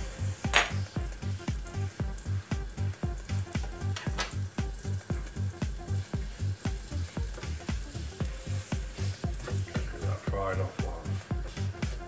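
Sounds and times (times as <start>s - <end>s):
spatula stirring in pan: 0.0s - 10.3s
food sizzling in hot oil: 0.0s - 12.0s
music with thumping beat: 0.0s - 12.0s.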